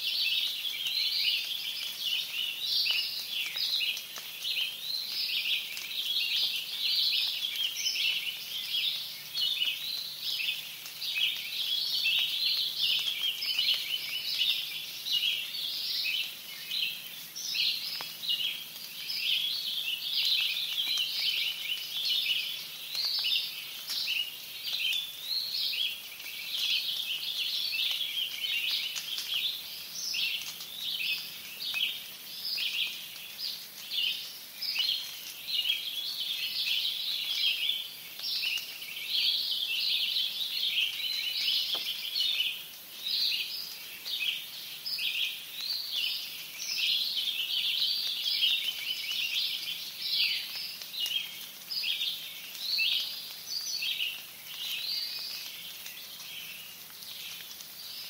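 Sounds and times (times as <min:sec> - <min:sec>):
light rain hiss: 0:00.0 - 0:58.0
songbirds singing: 0:00.0 - 0:58.0.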